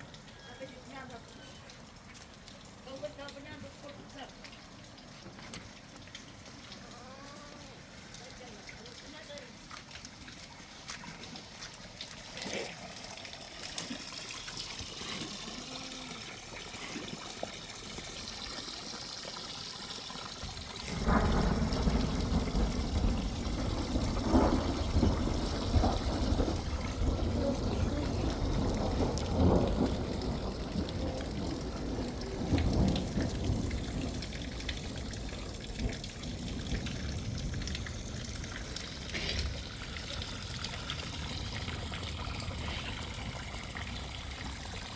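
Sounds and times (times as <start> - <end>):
heavy rain: 0.0 - 12.2, 13.0 - 44.9
rumbling rush of water: 0.0 - 44.9
water pouring and trickling: 0.0 - 44.9.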